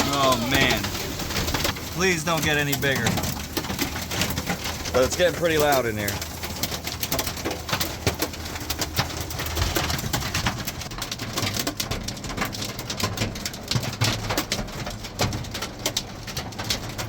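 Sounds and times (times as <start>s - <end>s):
hail hitting metal van body: 0.0s - 17.0s.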